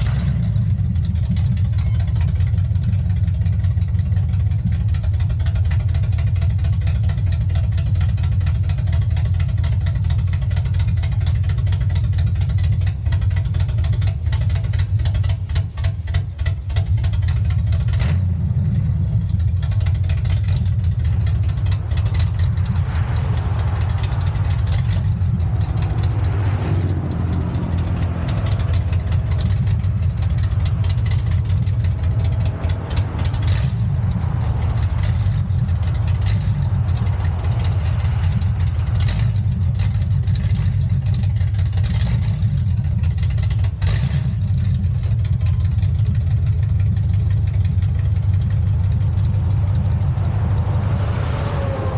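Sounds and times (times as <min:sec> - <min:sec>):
vehicle engine rumbling: 0:00.0 - 0:51.9.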